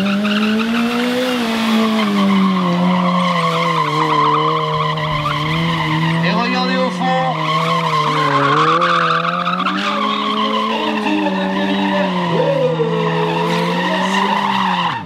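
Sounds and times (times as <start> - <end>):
motorcycle engine revving high: 0.0 - 15.0
tyre skidding on asphalt: 0.0 - 15.0.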